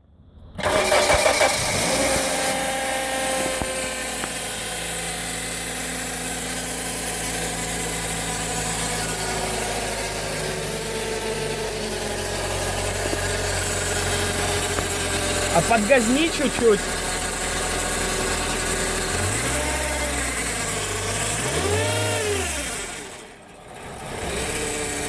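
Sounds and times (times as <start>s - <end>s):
car engine starting and idling: 0.2s - 25.0s
transmission buzz: 0.6s - 23.1s.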